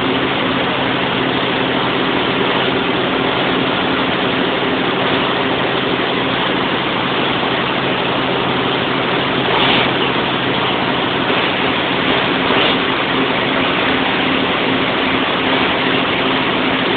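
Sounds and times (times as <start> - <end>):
diesel generator running: 0.0 - 16.9.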